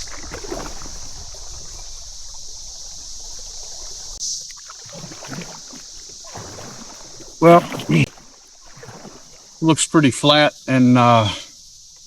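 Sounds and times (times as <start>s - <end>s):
water splash: 0.0s - 10.0s
creek water rushing: 0.0s - 11.8s.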